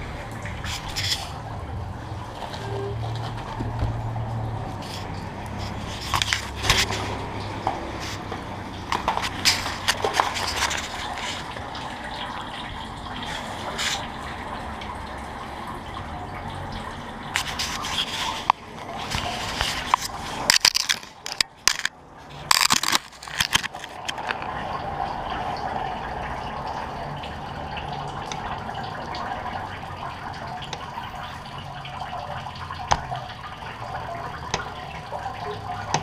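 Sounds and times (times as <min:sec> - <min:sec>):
water dripping and splashing: 0:00.0 - 0:36.0.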